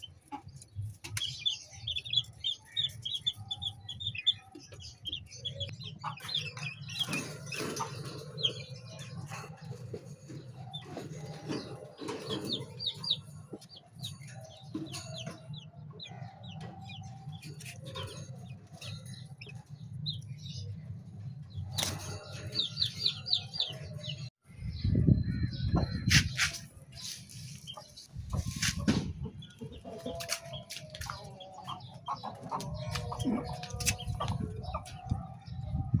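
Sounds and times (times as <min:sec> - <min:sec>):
chickens clucking: 0:00.0 - 0:24.3, 0:25.6 - 0:36.0
chicks peeping: 0:00.0 - 0:36.0.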